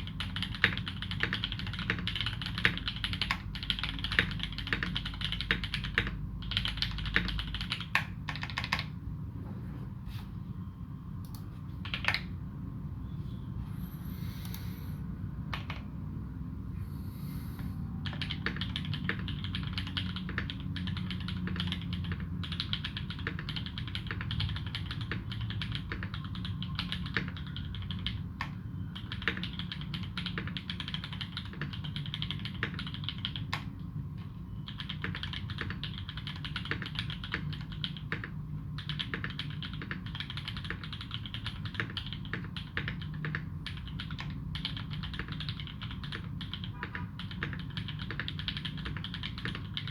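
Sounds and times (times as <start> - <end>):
mechanical keyboard typing: 0.0 - 9.0, 11.2 - 12.3, 15.5 - 16.0, 18.0 - 49.9
low steady hum: 0.0 - 49.9.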